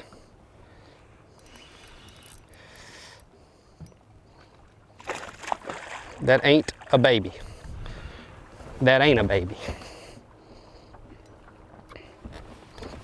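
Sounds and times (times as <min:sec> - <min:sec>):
light wind: 0:00.0 - 0:13.0
water lapping against boat hull: 0:00.0 - 0:13.0.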